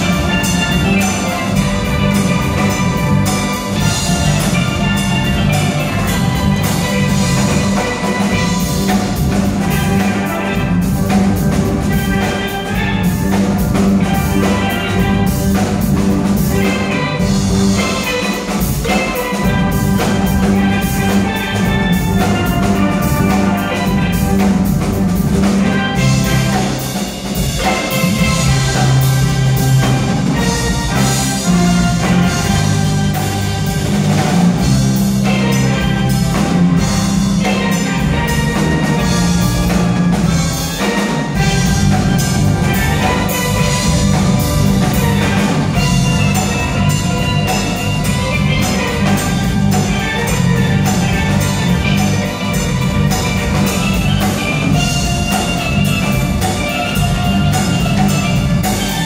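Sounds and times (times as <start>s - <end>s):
drum kit beat: 0.0s - 59.0s
electric bass guitar: 0.0s - 59.0s
steel pans playing melody: 0.0s - 59.0s.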